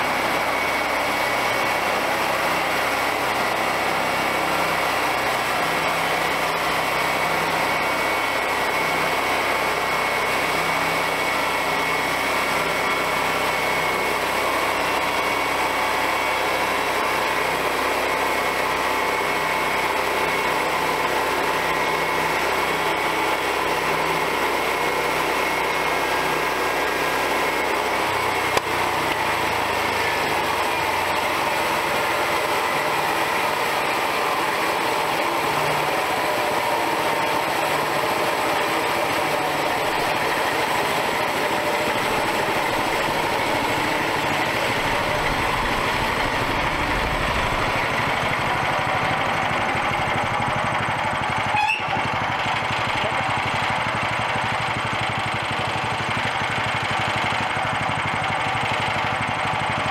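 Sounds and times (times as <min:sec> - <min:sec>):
saw blade whining through log: 0:00.0 - 0:59.9
small gasoline engine running: 0:00.0 - 0:59.9.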